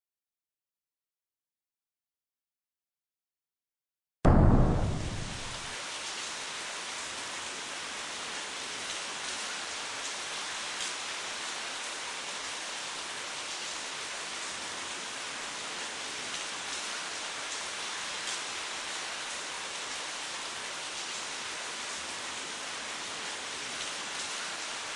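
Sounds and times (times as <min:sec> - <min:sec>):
steady rain hiss: 0:04.6 - 0:24.9.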